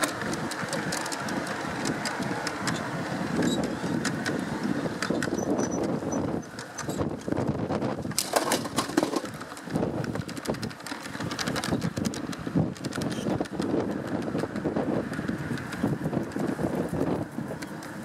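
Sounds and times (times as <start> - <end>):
model train rumbling: 0.0 - 18.0
wheels clicking on rails: 0.0 - 18.0.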